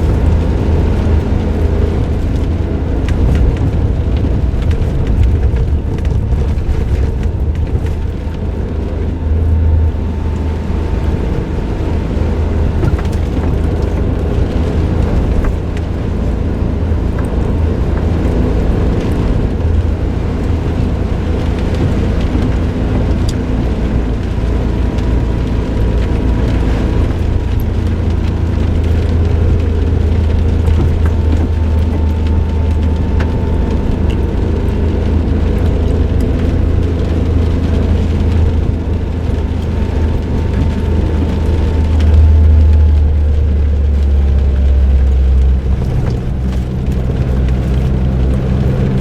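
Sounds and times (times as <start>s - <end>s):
car engine droning: 0.0s - 49.0s
tyre and road noise: 0.0s - 49.0s.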